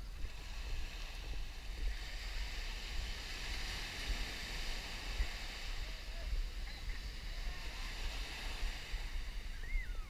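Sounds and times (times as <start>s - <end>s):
surf washing on sandy beach: 0.0s - 10.0s
wind buffeting microphone: 0.0s - 10.0s.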